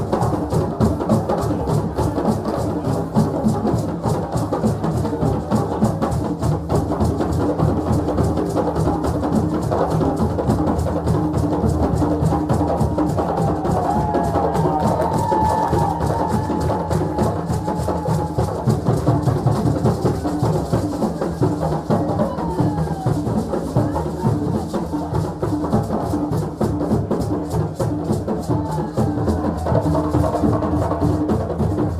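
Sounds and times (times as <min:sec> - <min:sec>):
drums playing fast rhythm: 0:00.0 - 0:31.9.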